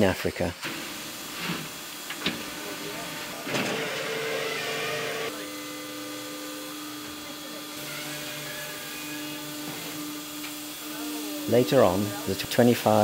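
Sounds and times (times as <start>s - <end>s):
hydraulic whine: 1.2s - 13.0s.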